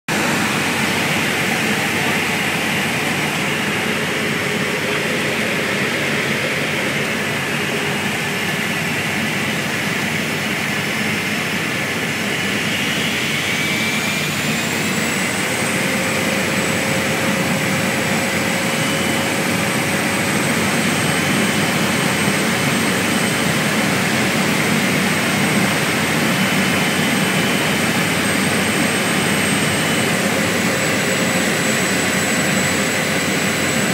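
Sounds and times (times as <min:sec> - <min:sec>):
plane engine and propeller: 0:00.1 - 0:33.9.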